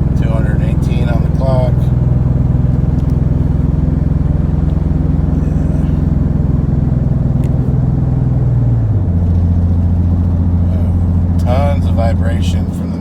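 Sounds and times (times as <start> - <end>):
misfiring truck engine: 0.0 - 13.0.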